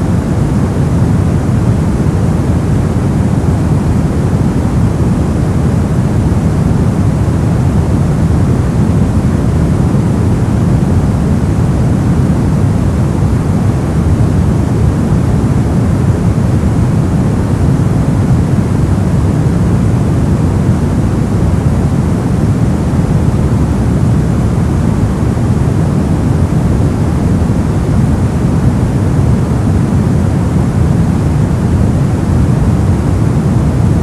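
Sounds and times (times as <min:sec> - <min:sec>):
deep rumbling brown noise: 0:00.0 - 0:34.0.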